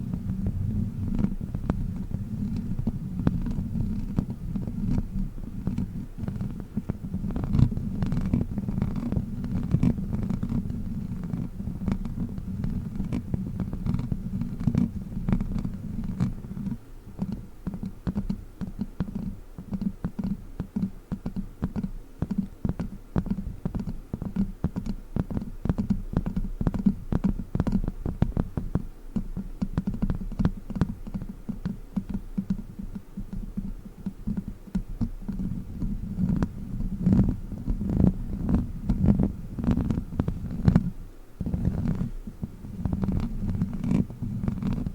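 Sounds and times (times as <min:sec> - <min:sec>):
muffled thumps and scratches: 0:00.0 - 0:44.9.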